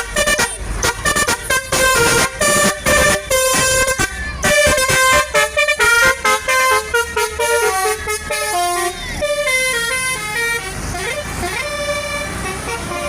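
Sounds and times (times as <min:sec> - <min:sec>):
bus air horns playing a melody: 0:00.0 - 0:13.0.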